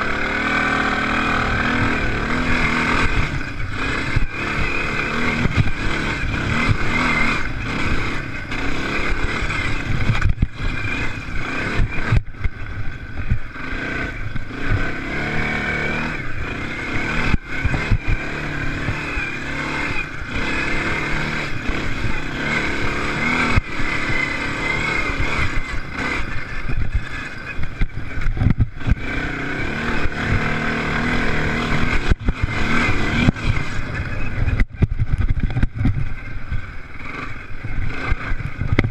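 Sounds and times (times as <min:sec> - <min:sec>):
racing engines revving: 0:00.0 - 0:38.9.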